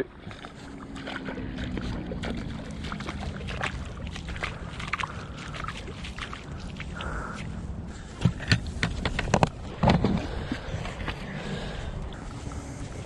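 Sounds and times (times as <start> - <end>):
low steady rumble: 0.0 - 13.0
shallow water lapping: 0.0 - 13.0.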